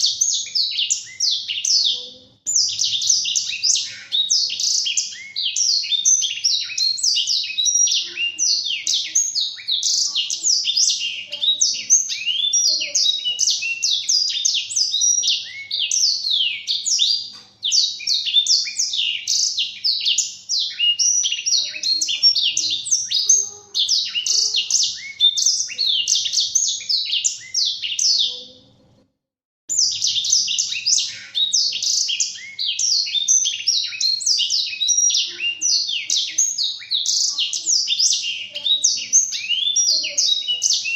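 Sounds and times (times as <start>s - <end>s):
canary singing twittering warble: 0.0s - 29.0s, 29.7s - 40.9s.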